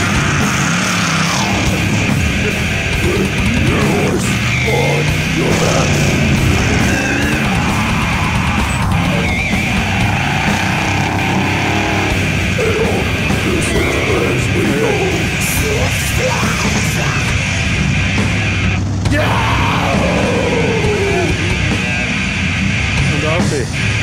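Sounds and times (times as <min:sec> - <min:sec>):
heavy metal music: 0:00.0 - 0:24.0.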